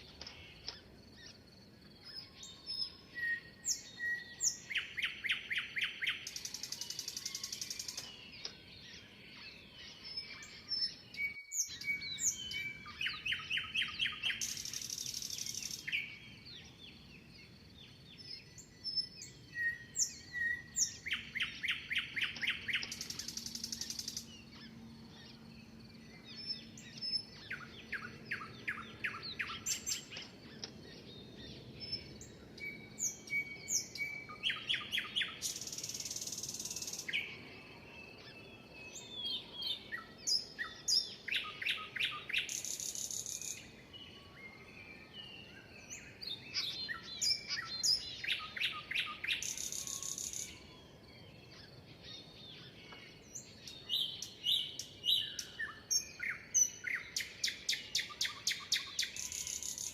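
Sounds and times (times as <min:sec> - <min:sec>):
bird song with buzzy trill: 0:00.0 - 0:59.9.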